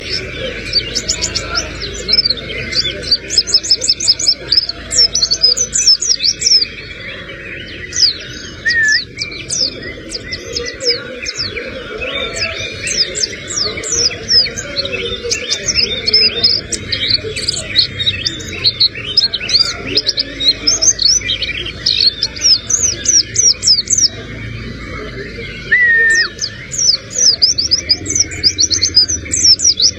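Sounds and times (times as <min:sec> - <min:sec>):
bird singing high sweeping notes: 0:00.0 - 0:29.9.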